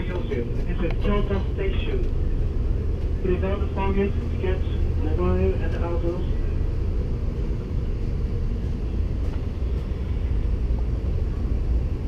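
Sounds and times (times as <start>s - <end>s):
train rumble inside cabin: 0.0s - 12.0s.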